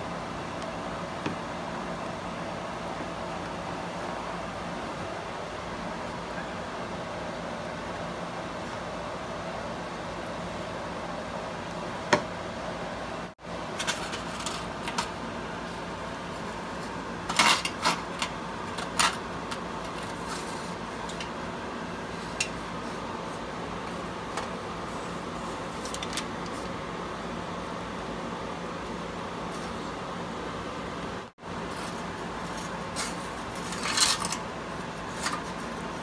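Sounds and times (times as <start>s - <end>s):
kitchen background hum: 0.0s - 36.0s.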